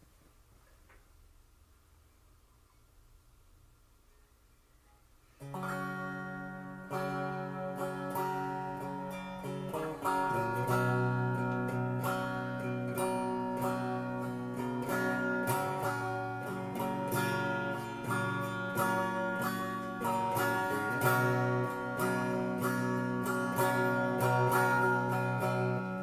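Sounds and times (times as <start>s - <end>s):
guitar strumming chords: 4.8s - 26.0s.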